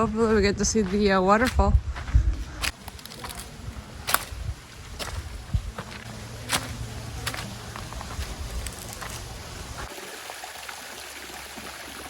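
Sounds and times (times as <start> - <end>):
footsteps on dirt trail: 0.0 - 9.9.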